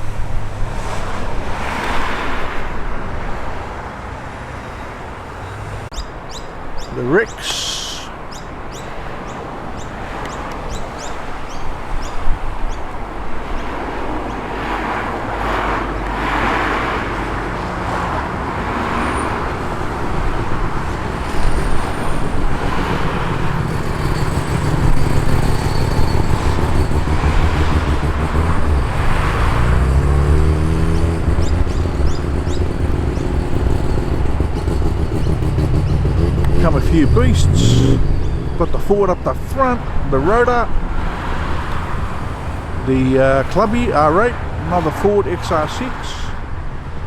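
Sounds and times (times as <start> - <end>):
cars driving past: 0.0 - 47.0
car accelerating: 6.7 - 46.4.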